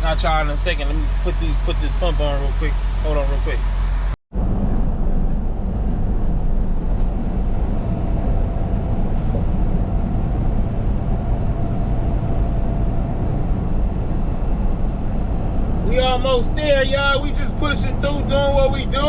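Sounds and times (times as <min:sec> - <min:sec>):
truck engine rumble from cab: 0:00.0 - 0:19.0.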